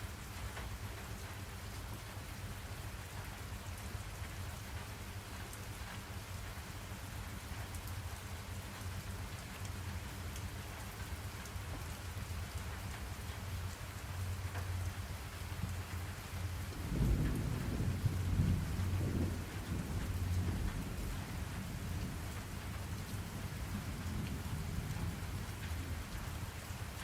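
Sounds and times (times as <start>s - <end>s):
rain drops ticking: 0.0s - 27.0s
steady rain falling: 0.0s - 27.0s.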